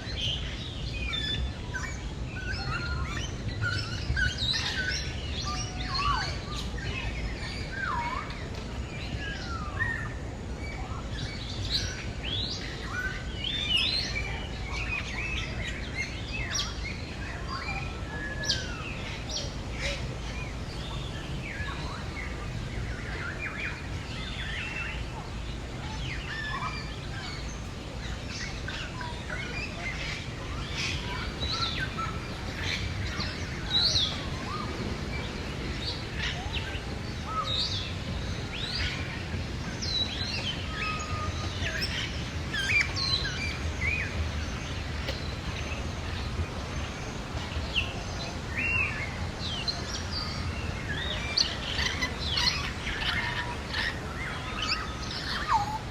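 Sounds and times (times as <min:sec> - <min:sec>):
many birds chirping: 0:00.0 - 0:55.9.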